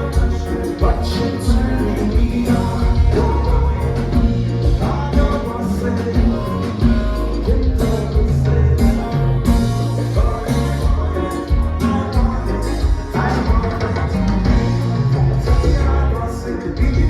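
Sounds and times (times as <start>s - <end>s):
live dance band music: 0.0s - 17.0s
person singing: 0.0s - 17.0s.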